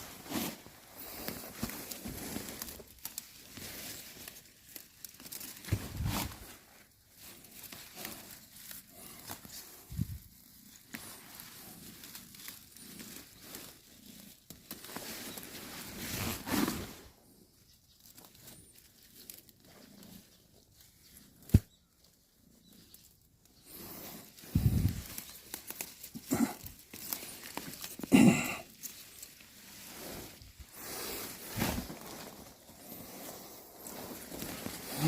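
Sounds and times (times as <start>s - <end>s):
rustling of leaves and soil: 0.0s - 35.0s.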